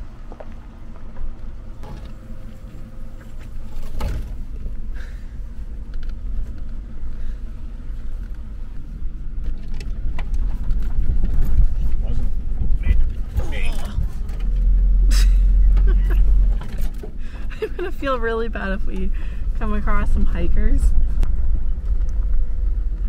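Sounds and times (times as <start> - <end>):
van engine running: 0.0 - 23.0.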